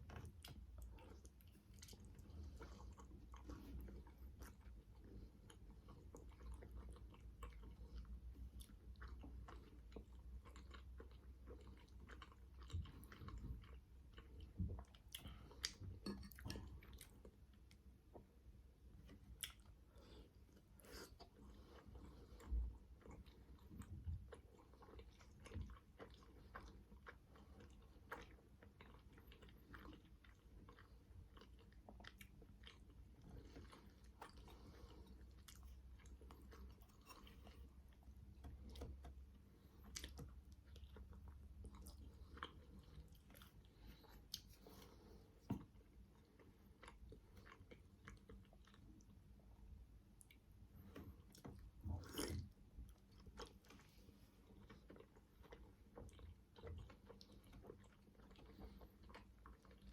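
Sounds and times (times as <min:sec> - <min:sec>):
chewing and biting dumplings: 0:00.0 - 0:59.9.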